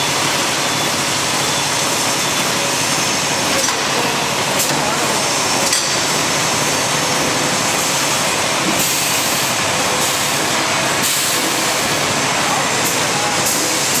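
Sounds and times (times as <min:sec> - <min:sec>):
bag making machine running: 0:00.0 - 0:14.0.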